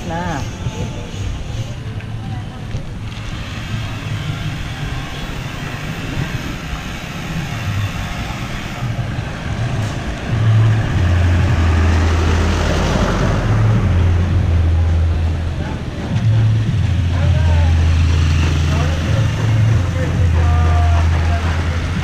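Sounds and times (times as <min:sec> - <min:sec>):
low vehicle rumble: 0:00.0 - 0:22.0
street traffic: 0:00.0 - 0:22.0.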